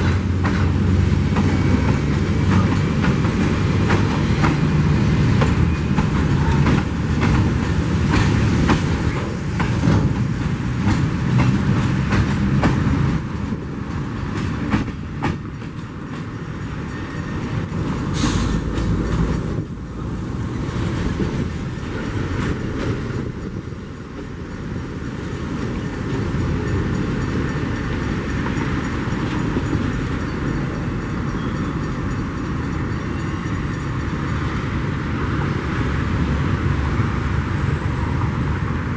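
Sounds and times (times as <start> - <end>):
wheels clacking over rail joints: 0.0 - 37.8
freight train rolling past: 0.0 - 38.9.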